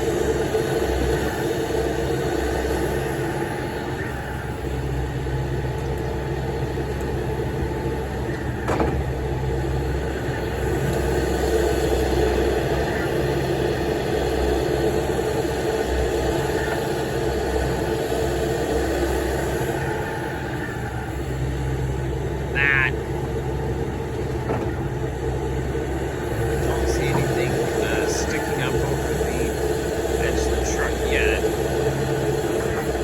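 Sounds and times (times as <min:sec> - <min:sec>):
heavy diesel engines running: 0:00.0 - 0:33.0.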